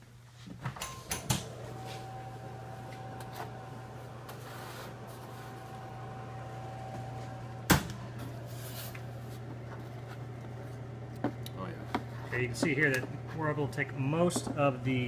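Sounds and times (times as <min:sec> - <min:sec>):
oven low hum: 0:00.0 - 0:15.0.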